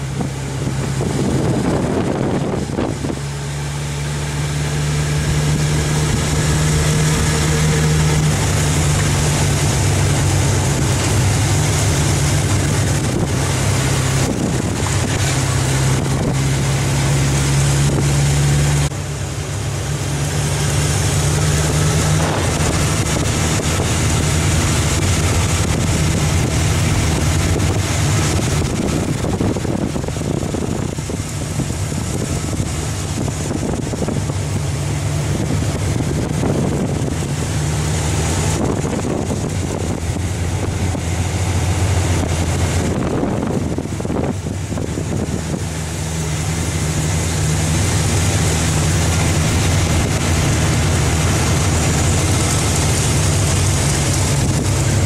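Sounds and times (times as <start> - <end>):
wind buffeting microphone: 0.0 - 18.9, 20.3 - 55.0
vehicle engine running: 0.0 - 55.0.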